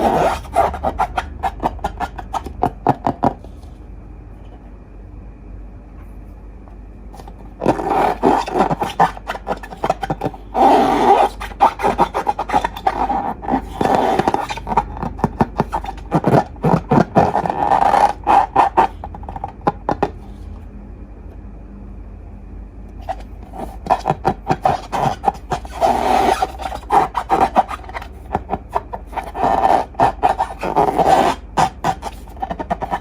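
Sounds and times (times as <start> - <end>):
scraping: 0.0 - 3.8, 7.2 - 20.6, 23.0 - 33.0.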